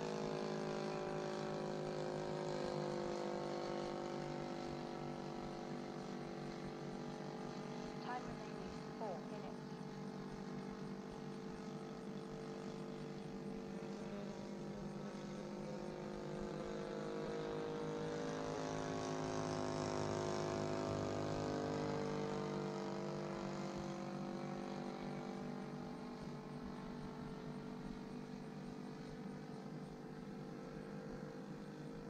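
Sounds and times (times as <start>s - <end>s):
model plane engine running: 0.0s - 32.0s.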